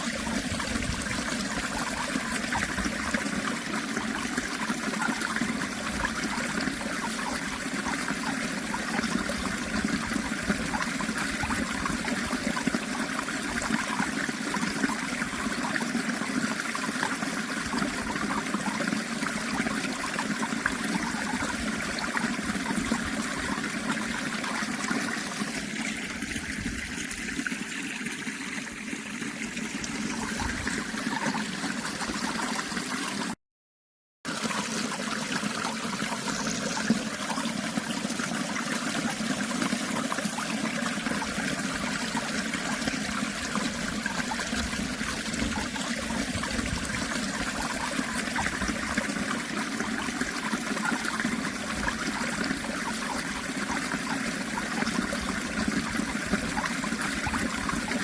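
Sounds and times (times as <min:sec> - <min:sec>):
running water flowing: 0:00.0 - 0:33.4, 0:34.3 - 0:58.0.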